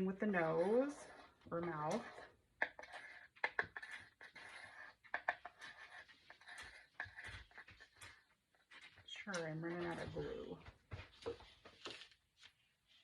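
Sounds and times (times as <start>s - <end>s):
scraping rustles of craft pieces: 0.4s - 13.0s.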